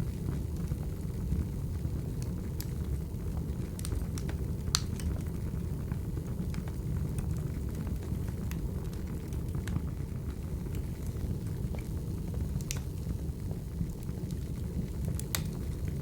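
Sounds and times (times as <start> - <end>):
fire crackles and pops: 0.0 - 16.0
wood fire burning: 0.0 - 16.0.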